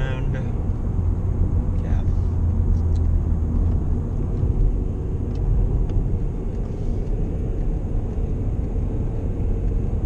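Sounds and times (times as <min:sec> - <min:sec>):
car driving at freeway speed: 0:00.0 - 0:10.0.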